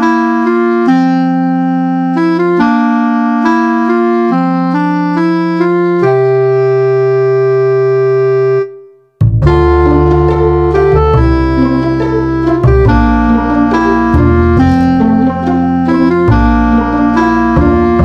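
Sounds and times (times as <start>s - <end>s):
electronic keyboard chords: 0.0s - 18.0s.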